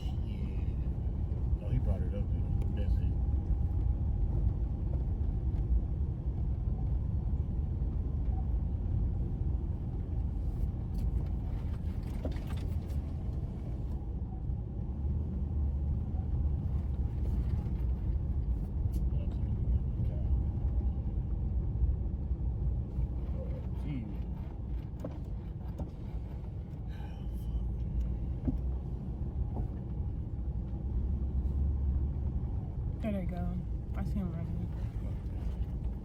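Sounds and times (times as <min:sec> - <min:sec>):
vehicle engine and tyres rumbling: 0:00.0 - 0:36.0.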